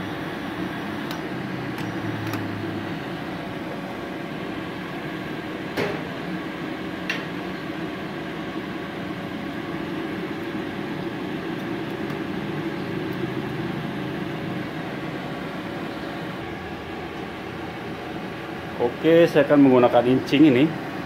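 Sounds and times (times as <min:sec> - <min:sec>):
cooling fan running: 0:00.0 - 0:21.0
welder humming: 0:00.0 - 0:21.0.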